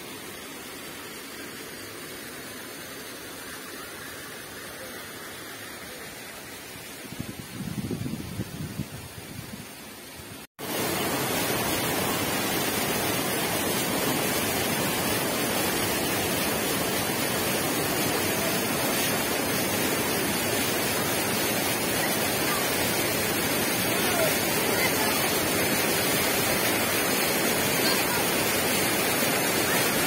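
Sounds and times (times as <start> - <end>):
waterfall rushing over rocks: 0.0 - 7.6, 8.9 - 30.0.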